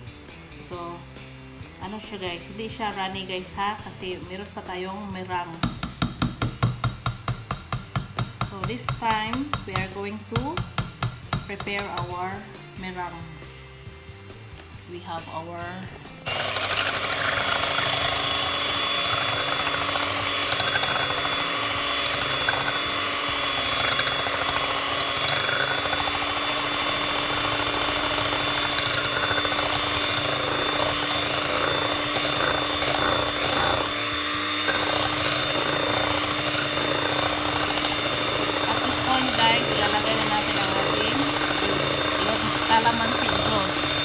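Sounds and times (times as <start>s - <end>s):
electric hand mixer whipping: 4.0s - 12.2s, 15.9s - 44.0s.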